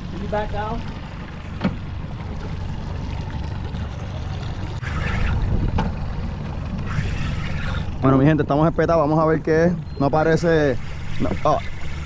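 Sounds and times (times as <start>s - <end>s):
boat engine running low: 0.0s - 12.0s
water sloshing along hull: 0.0s - 12.0s.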